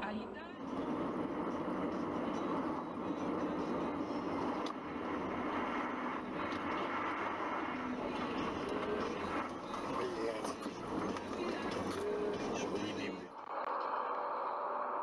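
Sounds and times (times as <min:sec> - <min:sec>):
car engine and tyres hum: 0:00.0 - 0:15.0.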